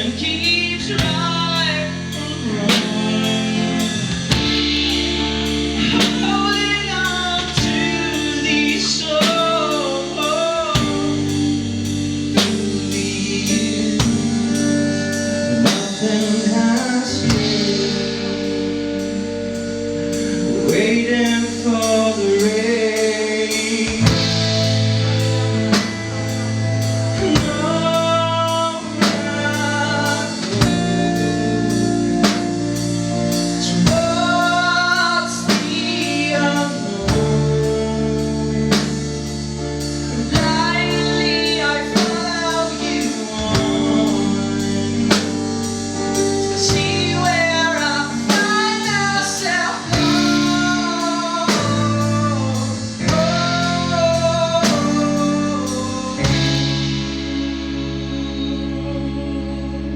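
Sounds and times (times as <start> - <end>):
drum kit beat: 0.0 - 58.1
guitars and bass: 0.0 - 59.9
melodic lead line bending: 0.0 - 59.9.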